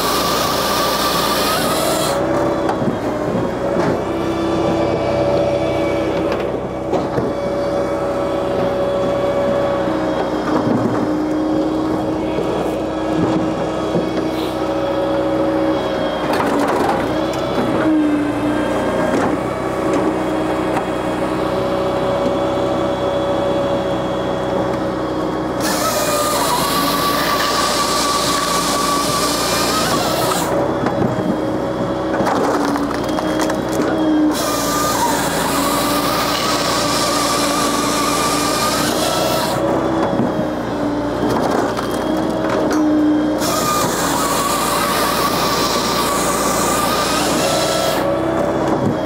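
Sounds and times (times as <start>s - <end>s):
machine hum: 0.0s - 49.0s
saw cutting through log: 0.0s - 49.0s.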